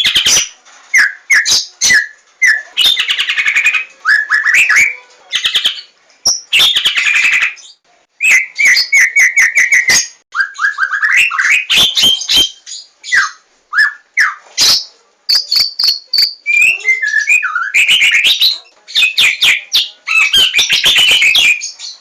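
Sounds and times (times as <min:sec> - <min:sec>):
songbird singing whistled notes: 0:00.0 - 0:22.0.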